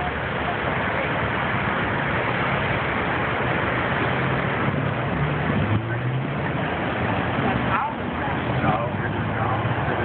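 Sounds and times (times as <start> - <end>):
low engine hum: 0.0 - 10.0
road traffic rushing: 0.0 - 10.0.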